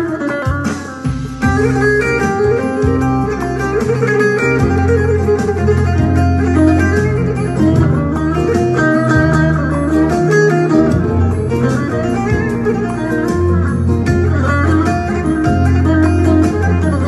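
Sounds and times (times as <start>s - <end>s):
electric lute fast picked notes: 0.0s - 17.0s.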